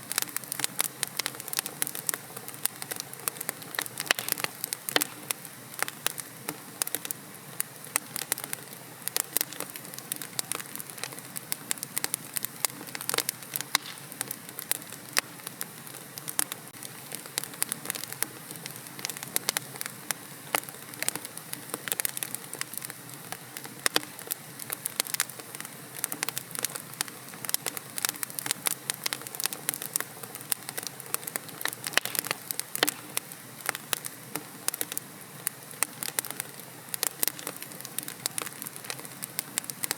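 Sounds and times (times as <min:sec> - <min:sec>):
logs crackling and popping: 0:00.0 - 0:39.9
hiss of flames: 0:00.1 - 0:39.9.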